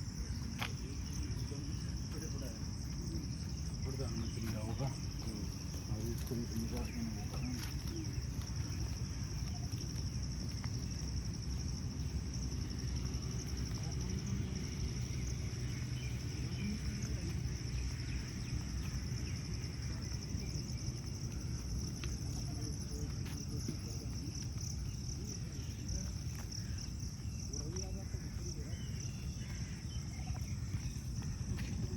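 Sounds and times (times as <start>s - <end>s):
insects trilling: 0.0s - 31.9s
low outdoor rumble: 0.0s - 31.9s.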